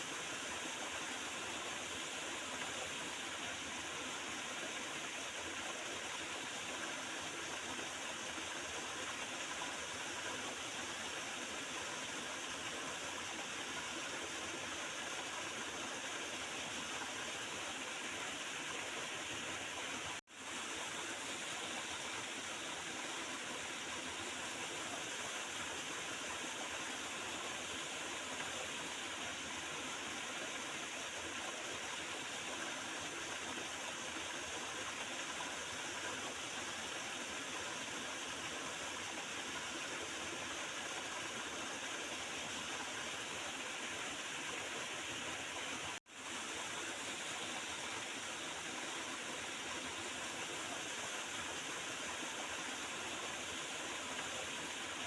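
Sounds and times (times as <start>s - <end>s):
small river gurgling: 0.0s - 55.0s.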